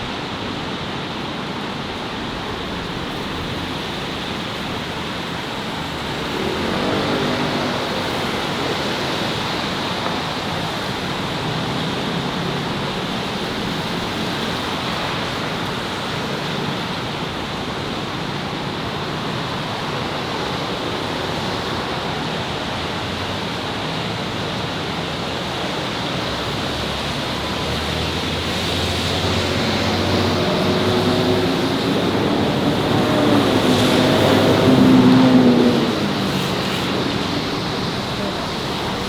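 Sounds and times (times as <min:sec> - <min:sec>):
city street traffic rumble: 0:00.0 - 0:39.0
vehicle engine approaching: 0:02.0 - 0:23.5, 0:25.6 - 0:39.0.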